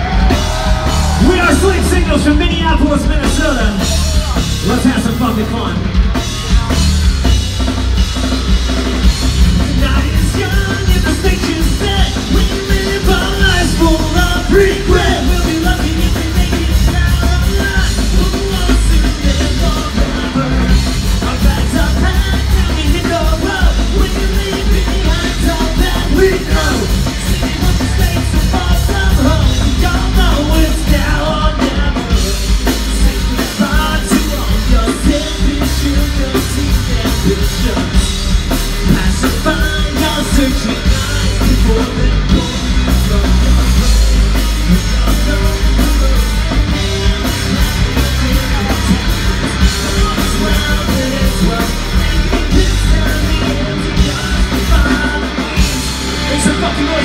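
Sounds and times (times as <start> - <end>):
live rock band playing: 0.0 - 57.0
person singing: 9.3 - 57.0.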